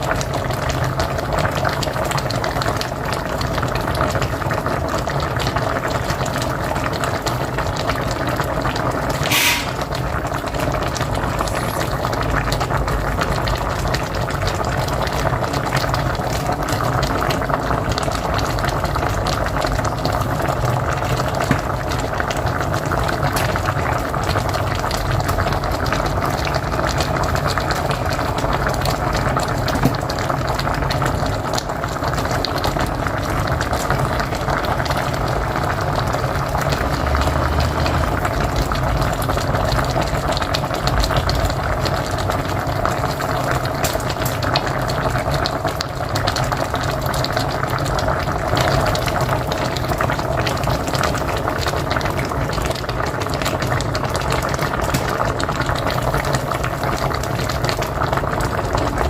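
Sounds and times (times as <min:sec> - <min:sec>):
pot boiling and bubbling: 0:00.0 - 0:59.0.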